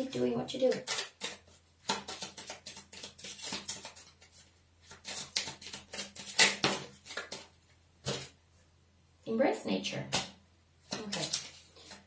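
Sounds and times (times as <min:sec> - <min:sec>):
cards tapping and flicking: 0:00.1 - 0:08.4, 0:10.1 - 0:12.0.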